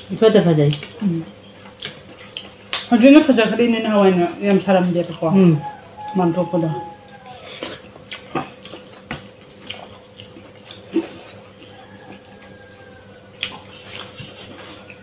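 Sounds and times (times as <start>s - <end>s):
wet chewing and lip smacks: 0.6s - 3.1s, 4.0s - 15.0s.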